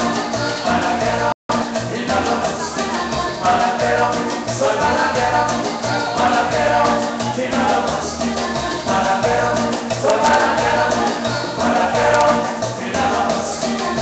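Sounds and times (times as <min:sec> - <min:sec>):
latin dance band playing: 0:00.0 - 0:14.0
person singing: 0:00.0 - 0:14.0.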